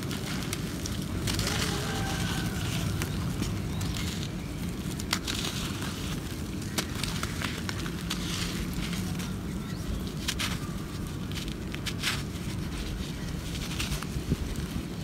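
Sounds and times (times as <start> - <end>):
dirt clods crushed in hands: 0.0 - 15.0
low steady rumble: 0.0 - 15.0.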